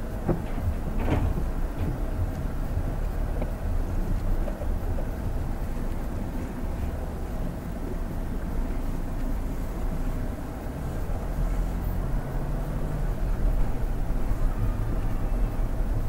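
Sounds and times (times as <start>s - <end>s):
diesel engine rumble in cabin: 0.0s - 16.0s
tyre and road noise: 0.0s - 16.0s.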